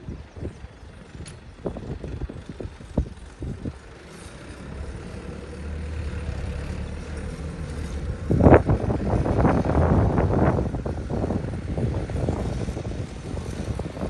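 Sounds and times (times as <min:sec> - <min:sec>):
tractor engine passing: 0:00.0 - 0:14.0.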